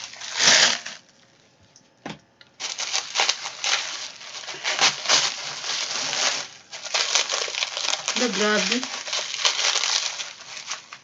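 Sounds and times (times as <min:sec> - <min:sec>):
plastic packaging crinkling: 0:00.0 - 0:01.6, 0:02.5 - 0:11.0.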